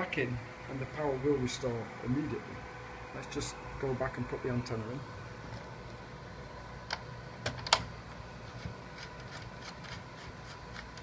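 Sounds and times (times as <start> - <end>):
cooling fan hum: 0.0 - 11.0.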